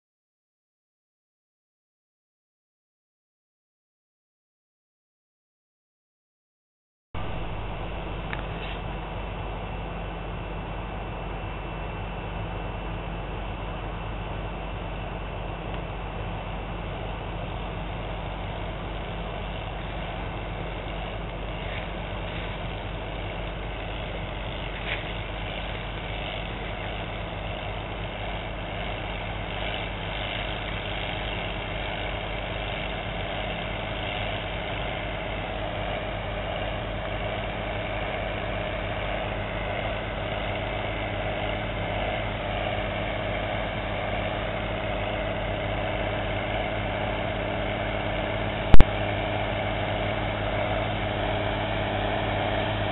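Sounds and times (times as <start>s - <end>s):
tractor diesel engine under load: 7.2s - 52.9s.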